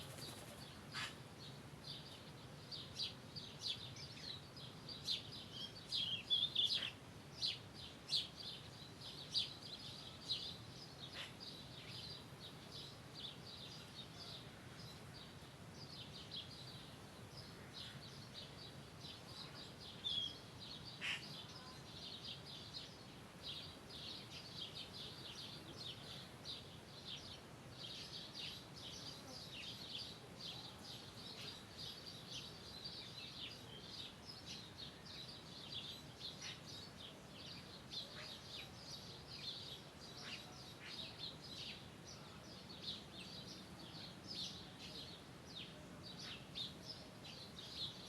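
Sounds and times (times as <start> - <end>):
faint low background noise: 0.0 - 48.0.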